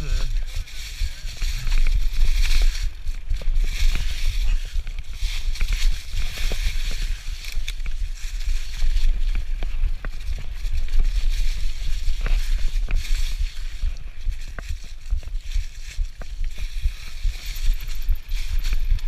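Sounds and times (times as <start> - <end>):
bike clicks and rattles: 0.0 - 19.0
low rumble: 0.0 - 19.0
tyres crackling through leaves: 0.0 - 19.0.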